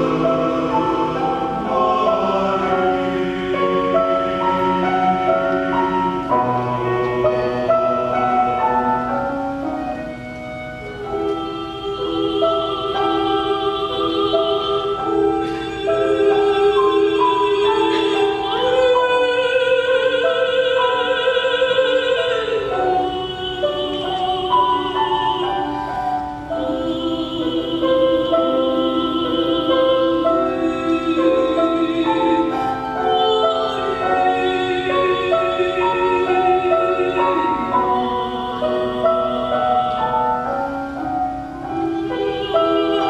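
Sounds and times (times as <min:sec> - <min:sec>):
piano: 0:00.0 - 0:43.0
violin: 0:00.0 - 0:43.0
woman singing with vibrato: 0:00.0 - 0:43.0.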